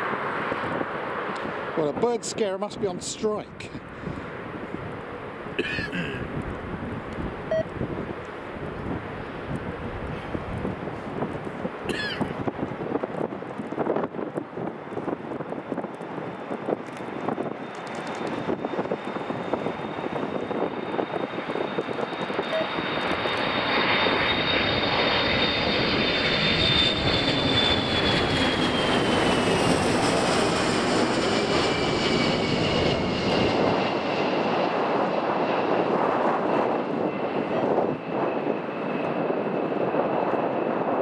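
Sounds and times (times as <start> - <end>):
jet engines roaring overhead: 0.0 - 41.0
jet engine whine sliding down: 6.3 - 41.0.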